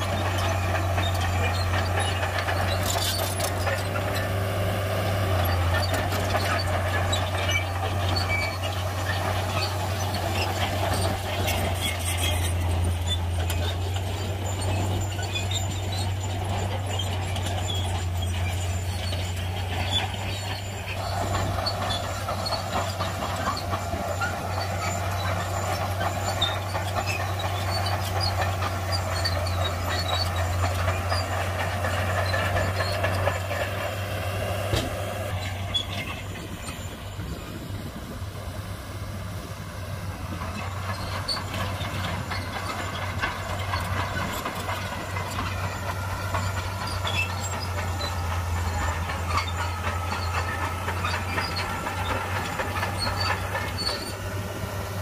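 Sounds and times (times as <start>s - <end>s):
heavy diesel machinery humming: 0.0s - 55.0s.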